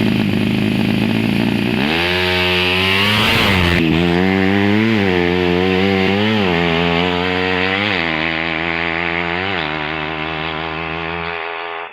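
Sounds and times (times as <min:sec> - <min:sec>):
small engine revving: 0:00.0 - 0:11.9.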